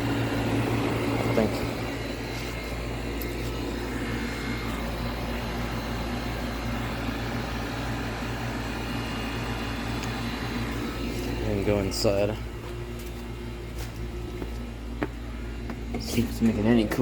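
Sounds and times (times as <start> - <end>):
air conditioner unit humming: 0.0 - 17.0.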